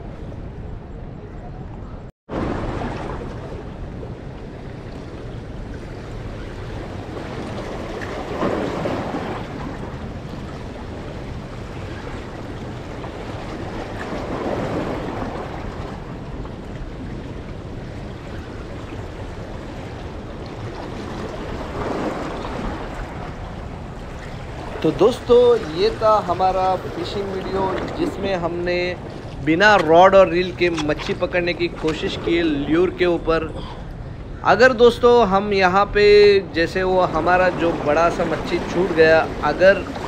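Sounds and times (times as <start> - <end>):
wind on microphone: 0.0 - 34.9
waves washing against rocks: 5.1 - 33.4, 36.1 - 40.0.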